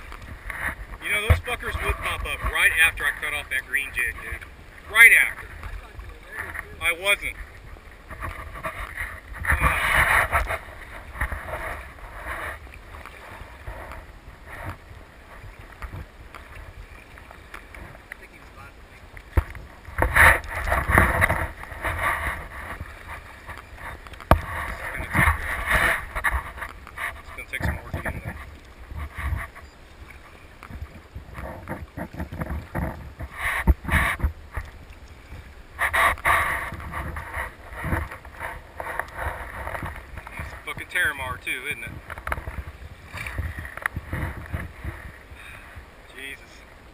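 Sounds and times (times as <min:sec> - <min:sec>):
water splashing against kayak hull: 0:00.0 - 0:46.9
wind rumbling on microphone: 0:00.0 - 0:46.9.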